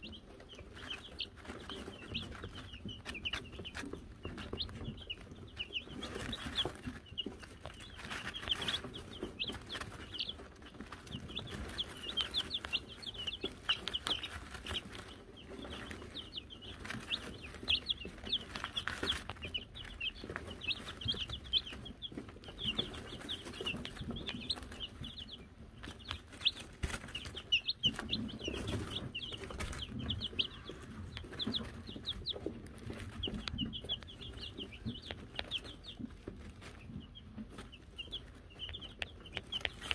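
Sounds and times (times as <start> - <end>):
chicks peeping: 0.0 - 39.9
chicks scratching and pecking: 0.0 - 39.9.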